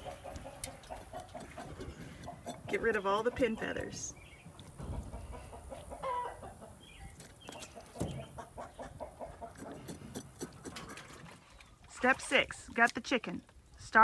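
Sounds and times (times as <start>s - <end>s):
chickens clucking: 0.0s - 11.9s.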